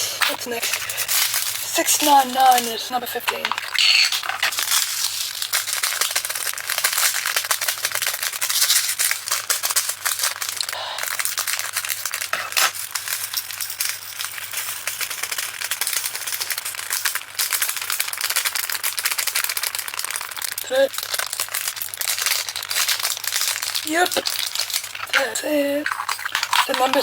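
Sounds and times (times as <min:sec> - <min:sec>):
tiny plastic beads rattling: 0:00.0 - 0:27.0.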